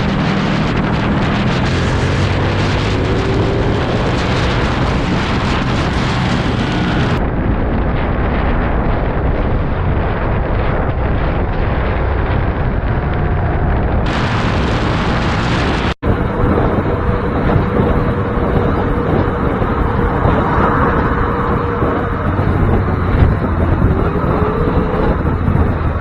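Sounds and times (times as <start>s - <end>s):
engine and road noise: 0.0s - 26.0s
wind rushing over microphone: 0.0s - 26.0s.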